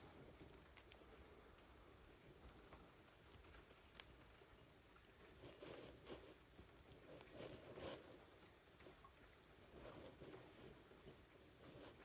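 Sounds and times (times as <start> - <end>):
hands rustling with wiring: 0.0 - 12.0.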